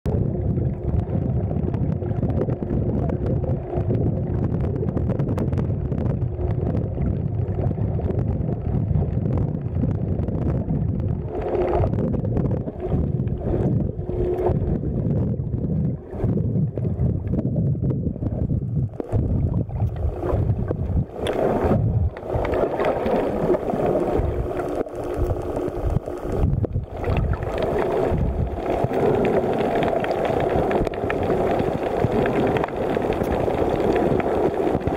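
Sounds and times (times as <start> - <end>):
boat engines humming underwater: 0.0 - 34.9
underwater wash and rumble: 0.0 - 34.9.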